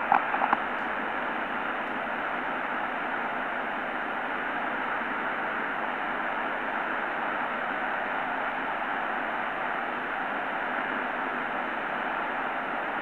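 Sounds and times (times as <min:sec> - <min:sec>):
shortwave radio static hiss: 0:00.0 - 0:13.0.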